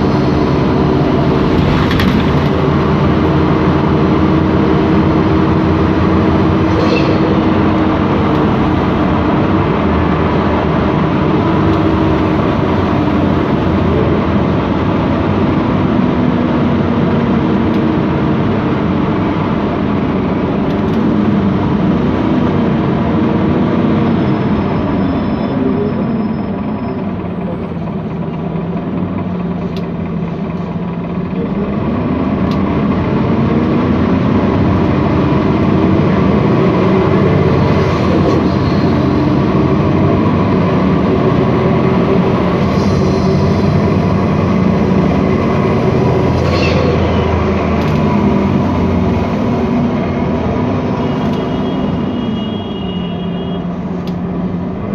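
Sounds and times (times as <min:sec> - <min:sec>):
bus engine droning: 0:00.0 - 0:54.9.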